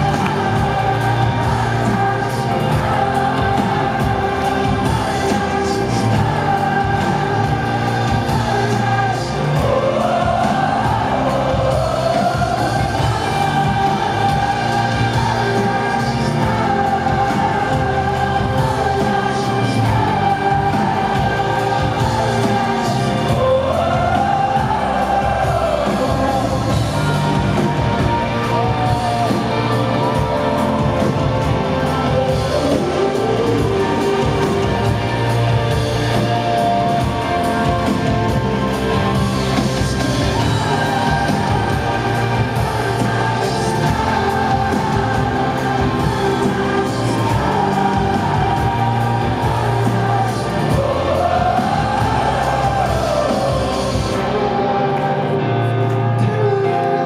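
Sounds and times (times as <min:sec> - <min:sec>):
audience singing along: 0:00.0 - 0:57.0
live rock band music: 0:00.0 - 0:57.0.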